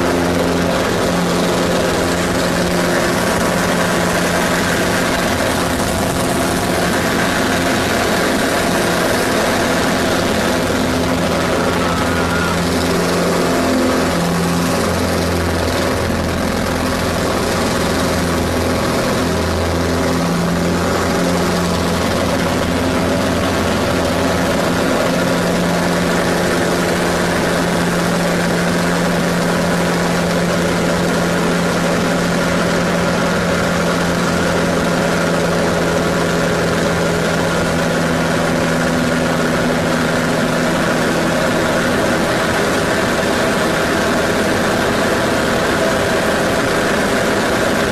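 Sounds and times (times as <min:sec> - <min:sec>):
airplane engine drone: 0:00.0 - 0:47.9.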